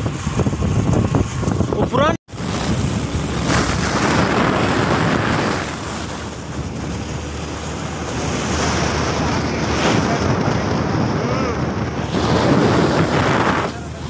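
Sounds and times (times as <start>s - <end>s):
motorcycle road noise: 0.0s - 14.0s
wind rushing over microphone: 0.0s - 14.0s.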